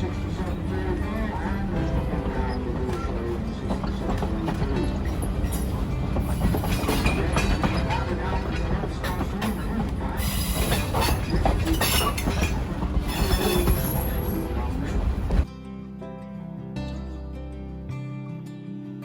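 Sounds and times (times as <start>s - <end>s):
train cars rumbling: 0.0s - 15.5s
wheels clattering over rail joints: 0.0s - 15.5s.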